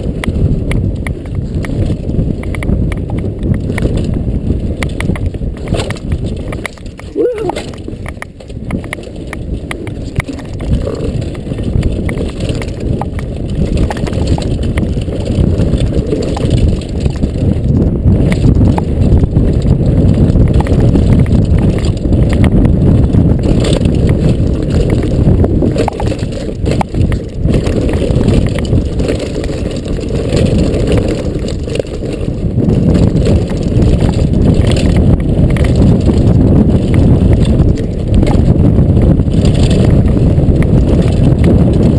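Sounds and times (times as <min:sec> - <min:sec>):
mountain bike rattling: 0:00.0 - 0:41.9
wind rumble on microphone: 0:00.0 - 0:41.9.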